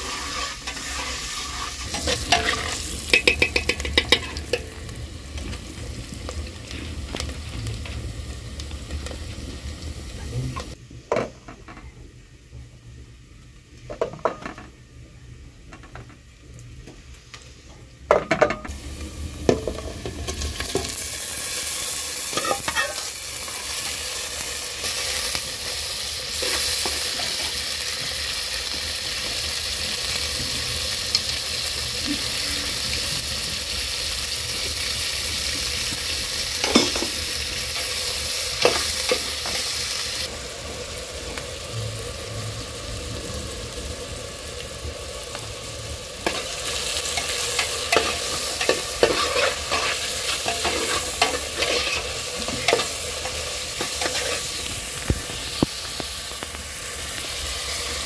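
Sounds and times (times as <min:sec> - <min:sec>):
meat and onions sizzling in a pot: 0:00.0 - 0:58.0.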